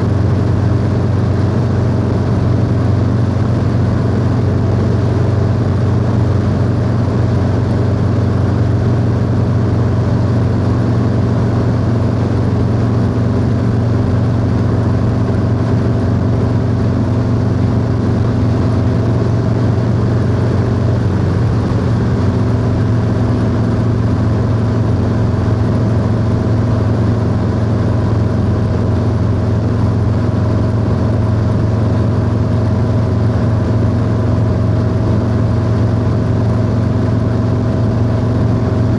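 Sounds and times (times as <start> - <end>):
motorcycle engine cruising: 0.0 - 38.9
wind and road noise: 0.0 - 38.9.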